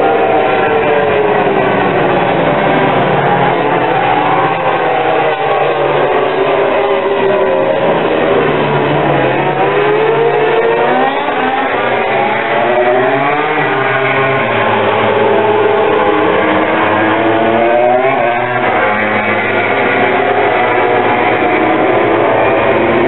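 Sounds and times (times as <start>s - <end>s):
race motorcycles revving past: 0.0s - 23.0s.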